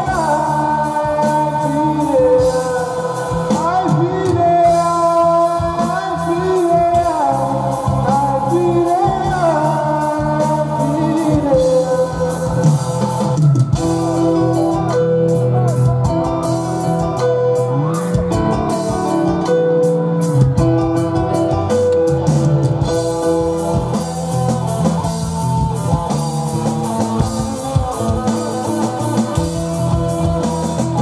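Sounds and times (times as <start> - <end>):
keyboard and bass: 0.0 - 31.0
person singing: 0.0 - 31.0
drum strokes: 1.0 - 31.0.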